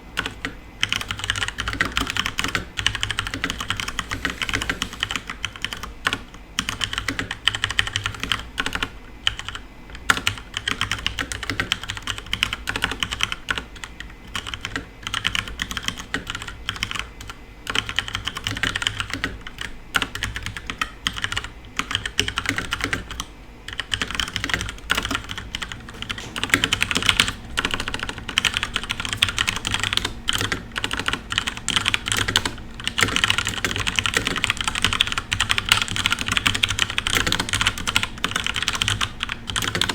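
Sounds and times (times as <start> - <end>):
low steady hum: 0.0 - 39.9
mechanical keyboard typing: 0.2 - 39.9.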